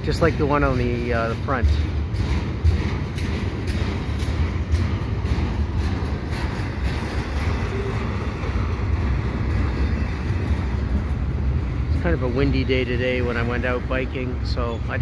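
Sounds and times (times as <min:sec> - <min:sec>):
clicks and clanks: 0:00.0 - 0:14.6
train wheels rumbling on rail: 0:00.0 - 0:15.0.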